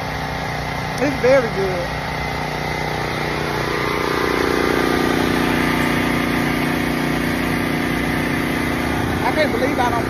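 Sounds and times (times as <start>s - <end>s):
engine running with even hum: 0.0s - 10.0s.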